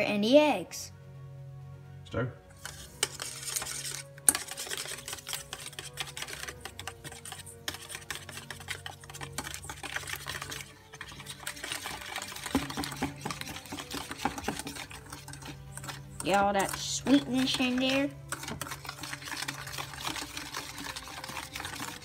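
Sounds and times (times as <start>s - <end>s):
whisk clicking in metal bowl: 2.6s - 22.0s.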